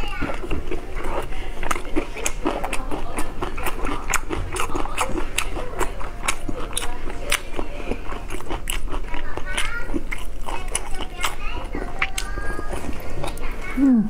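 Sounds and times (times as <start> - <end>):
lettuce crunching: 0.0 - 14.0.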